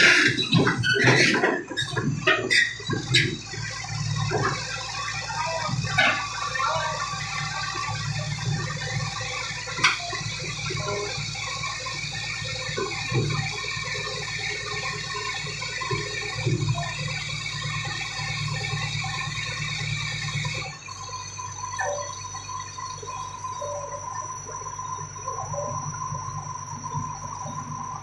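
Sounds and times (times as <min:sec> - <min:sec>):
heavy diesel machinery rumbling: 0:00.0 - 0:28.0.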